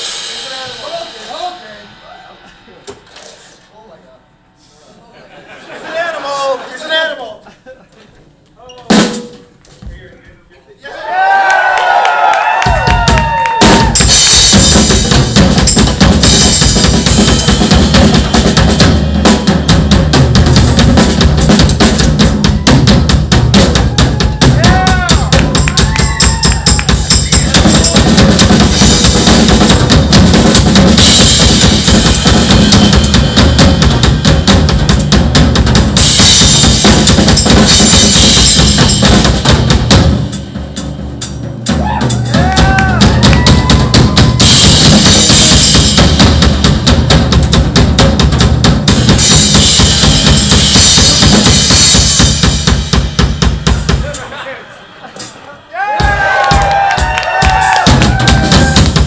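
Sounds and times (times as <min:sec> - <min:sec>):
drum kit solo: 0:00.0 - 0:03.6, 0:08.8 - 0:09.9, 0:12.4 - 0:54.4, 0:55.0 - 0:59.0.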